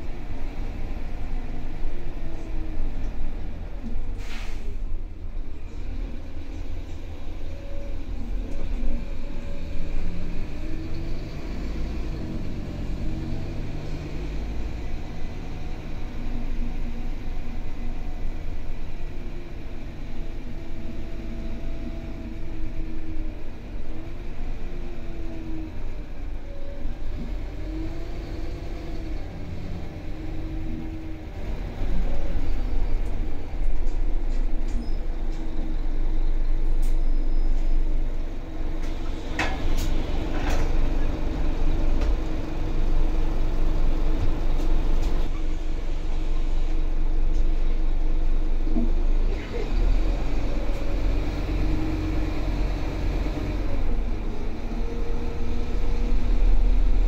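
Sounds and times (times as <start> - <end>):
bus diesel engine rumble: 0.0 - 57.0.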